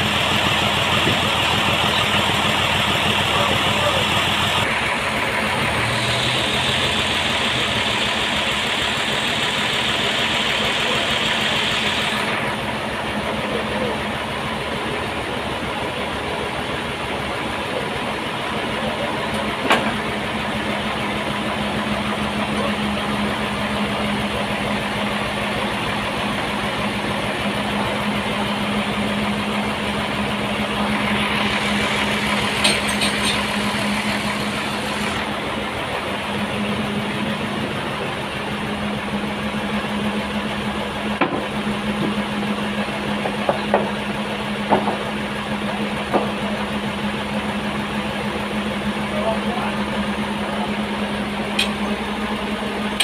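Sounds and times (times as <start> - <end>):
sawmill engine humming: 0.0 - 53.0.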